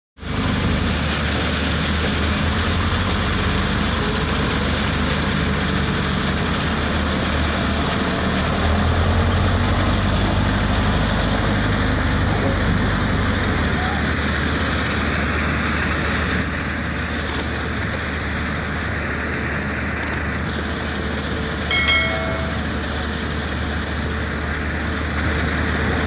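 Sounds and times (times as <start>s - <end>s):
diesel engine droning under load: 0.2s - 26.0s.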